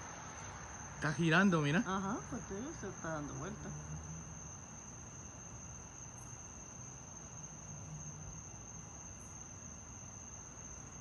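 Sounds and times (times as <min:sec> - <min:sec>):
crickets trilling: 0:00.0 - 0:11.0
faint background hiss: 0:00.0 - 0:11.0.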